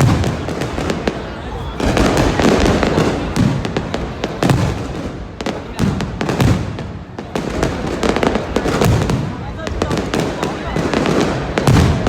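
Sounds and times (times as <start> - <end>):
deep firework booms: 0.0 - 12.0
fireworks cracking and popping: 0.0 - 12.0.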